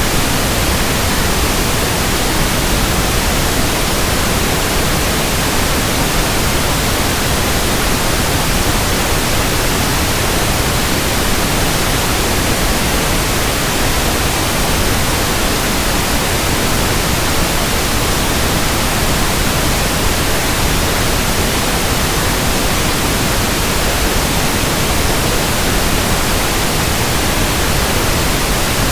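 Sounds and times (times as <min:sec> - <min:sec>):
pink noise hiss: 0:00.0 - 0:28.9.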